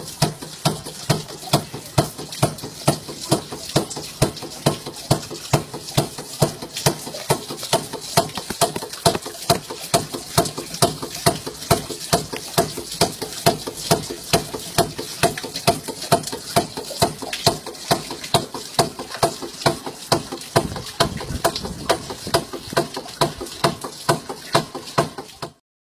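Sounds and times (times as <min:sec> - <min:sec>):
pump mechanism clacking: 0:00.0 - 0:25.6
water trickling into barrel: 0:00.0 - 0:25.6.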